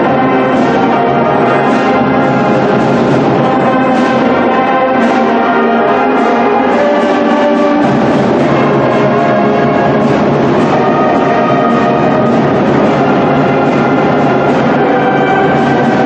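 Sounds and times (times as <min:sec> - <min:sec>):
orchestral music: 0:00.0 - 0:16.0.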